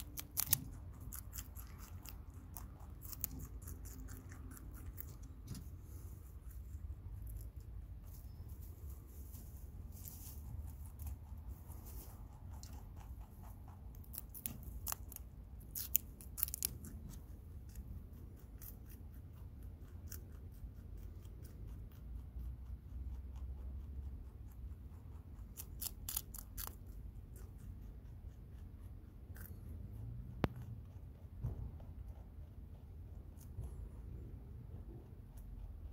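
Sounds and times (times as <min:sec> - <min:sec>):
rabbit chewing crunchily: 0:00.0 - 0:35.9.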